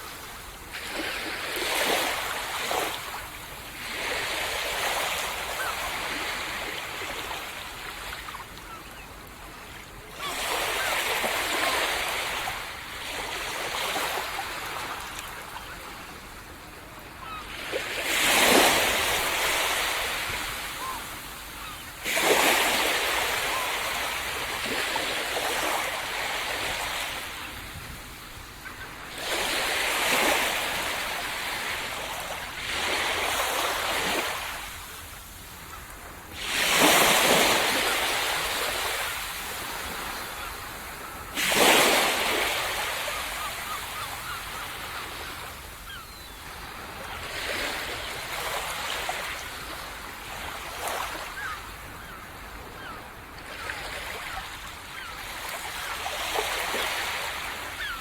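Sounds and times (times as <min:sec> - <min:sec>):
small waves breaking on sand: 0:00.0 - 0:58.0.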